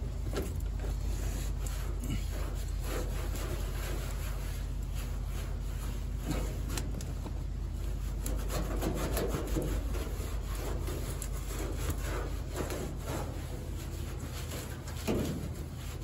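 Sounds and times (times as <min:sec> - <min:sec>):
cloth rubbing on bare steel: 0:00.8 - 0:16.0.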